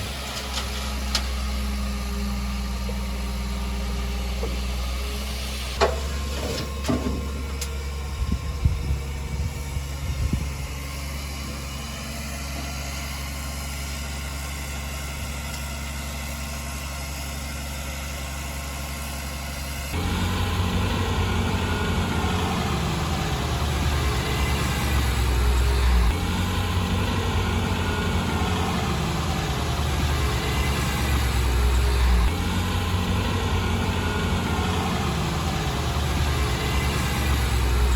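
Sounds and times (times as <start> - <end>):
heavy machinery diesel engine: 0.0 - 37.9.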